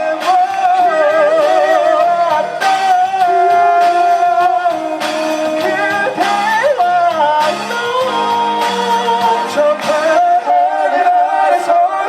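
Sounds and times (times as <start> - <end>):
pop ballad sung live: 0.0 - 12.0.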